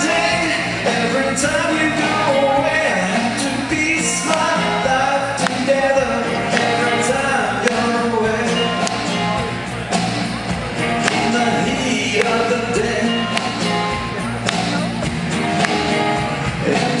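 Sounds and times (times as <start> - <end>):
person singing: 0.0 - 17.0
pop-rock band playing: 0.0 - 17.0.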